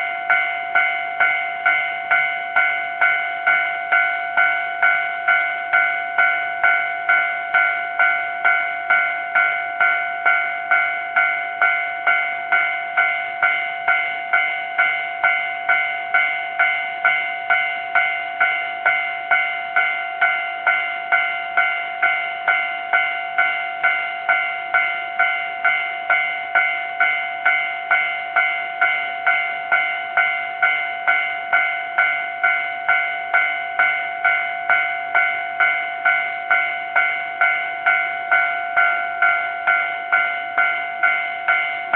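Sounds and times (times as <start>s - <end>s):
level crossing warning bell: 0.0s - 41.9s.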